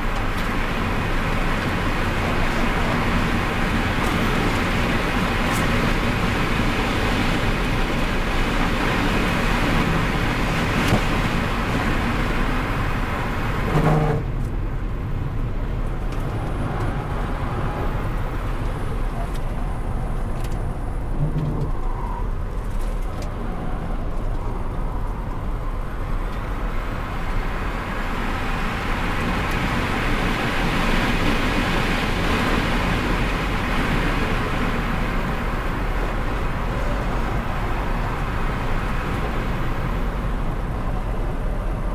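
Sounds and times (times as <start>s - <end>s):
wind and tyre noise: 0.0s - 41.9s.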